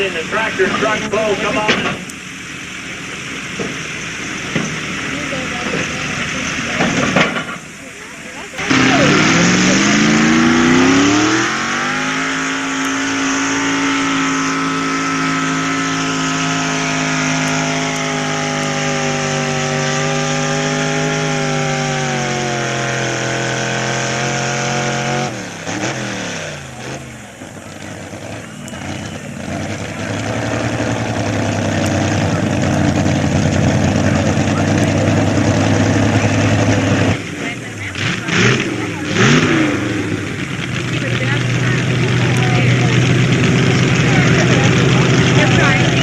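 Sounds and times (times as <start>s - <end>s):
truck engine at full throttle: 0.0s - 46.0s
another engine revving: 8.3s - 46.0s.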